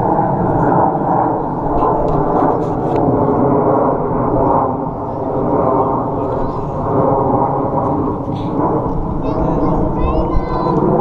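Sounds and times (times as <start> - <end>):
jets roaring overhead: 0.0 - 11.0.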